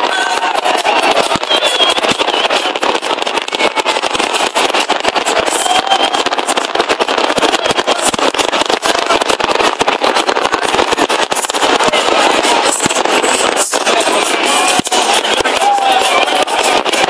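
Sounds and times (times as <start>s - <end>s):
fireworks cracks and bangs: 0.0s - 17.0s
large crowd noise: 0.0s - 17.0s.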